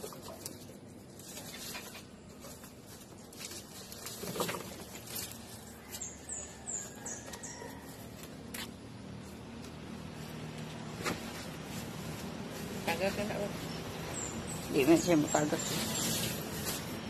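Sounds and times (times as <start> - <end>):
grass stalks rustling: 0.5 - 7.0, 7.8 - 17.0.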